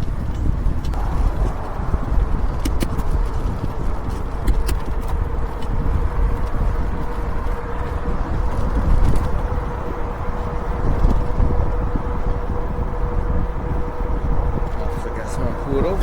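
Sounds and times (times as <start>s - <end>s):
wind rumbling over microphone: 0.0s - 16.0s
electric motor whine: 0.9s - 14.9s.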